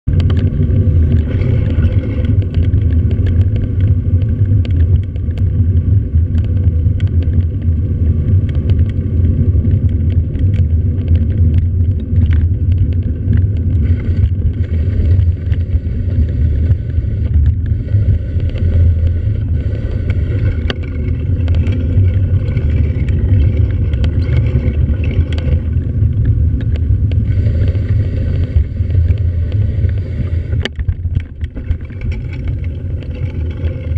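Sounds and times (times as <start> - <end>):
engine and road rumble: 0.0 - 33.9
small clicks and knocks: 0.1 - 33.9.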